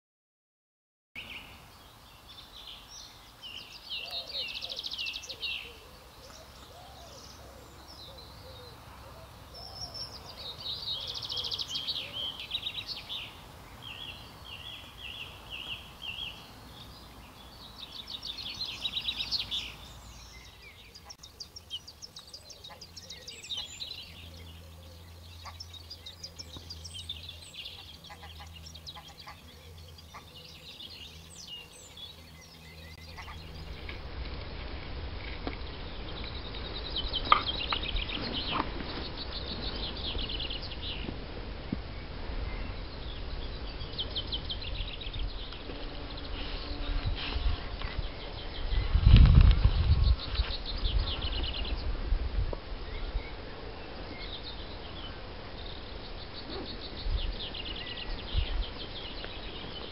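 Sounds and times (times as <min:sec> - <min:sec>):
songbirds singing: 0:01.2 - 0:59.9.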